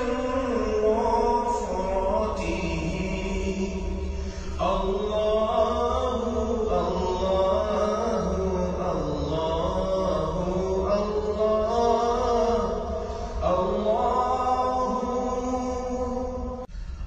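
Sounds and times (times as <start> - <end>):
voice chanting long notes: 0.0 - 16.7
low drone: 0.0 - 17.0.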